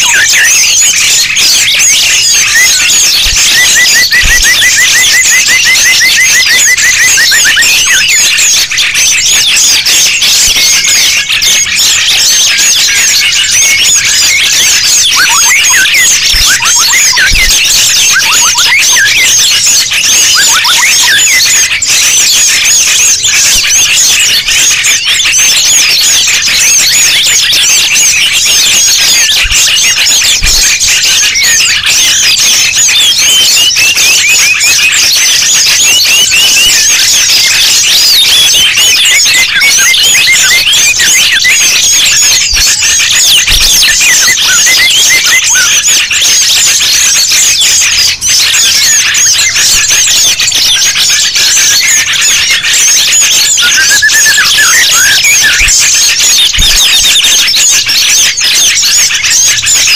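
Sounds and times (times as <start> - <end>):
fast bird trill: 0.0 - 59.9
songbirds chirping and twittering: 0.0 - 59.9.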